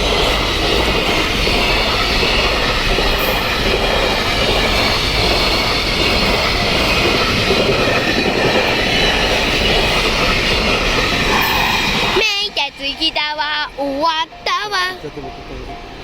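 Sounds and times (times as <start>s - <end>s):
train passing close by: 0.0s - 16.0s.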